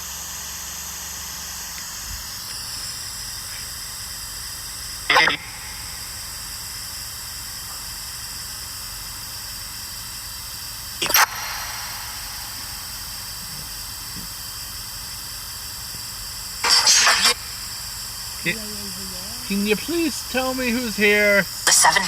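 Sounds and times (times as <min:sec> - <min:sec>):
static-like hiss: 0:00.6 - 0:22.0.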